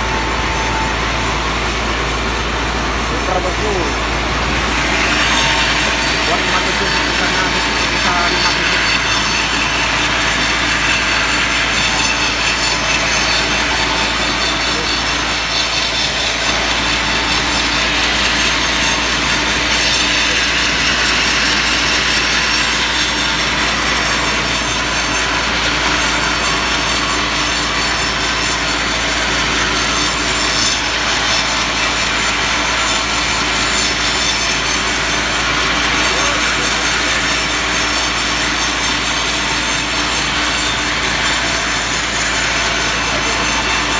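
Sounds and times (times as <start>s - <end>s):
power saw cutting timber: 0.0s - 43.9s.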